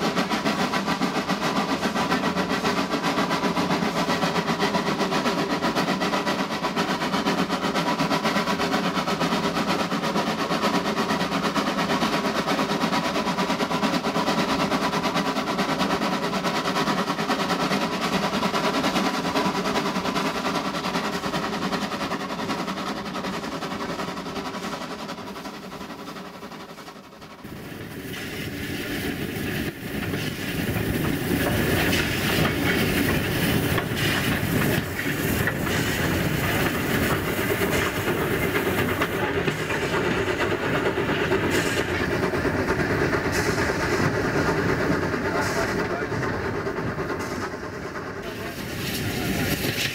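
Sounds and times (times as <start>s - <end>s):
steam locomotive running on rails: 0.0s - 49.9s.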